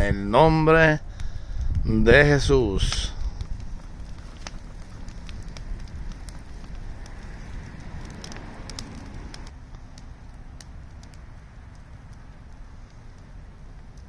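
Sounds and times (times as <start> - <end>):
wood fire crackling: 0.0 - 14.0
low rumble: 1.0 - 14.0.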